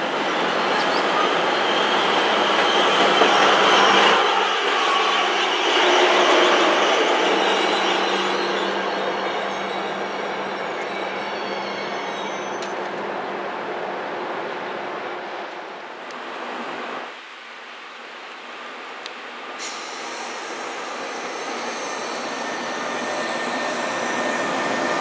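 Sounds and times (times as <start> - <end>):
train running on rails: 0.0 - 16.8, 19.3 - 25.0.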